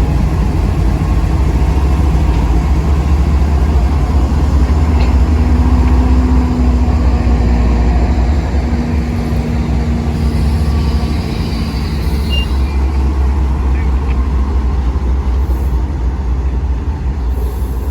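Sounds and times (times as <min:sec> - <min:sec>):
diesel locomotive engine rumbling: 0:00.0 - 0:17.9.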